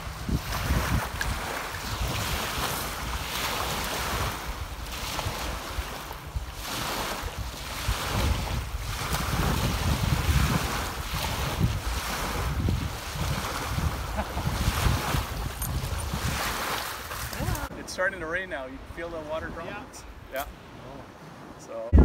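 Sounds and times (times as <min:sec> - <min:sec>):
waves lapping on stony shore: 0:00.0 - 0:17.8
wind buffeting microphone: 0:00.0 - 0:17.9, 0:18.8 - 0:22.0.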